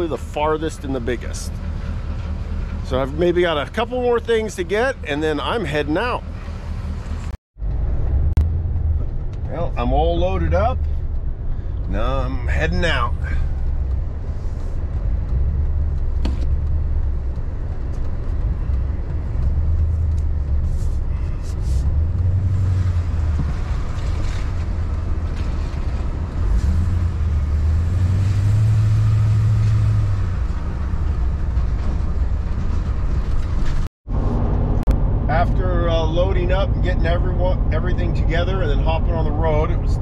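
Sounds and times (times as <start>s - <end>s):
road noise inside cab: 0.0s - 40.0s
truck engine rumble: 0.0s - 40.0s.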